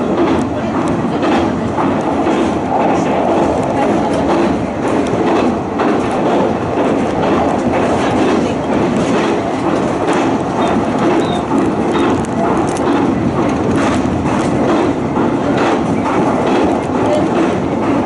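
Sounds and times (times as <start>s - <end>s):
train running rumble: 0.0s - 18.0s
wheels clicking over rails: 0.0s - 18.0s.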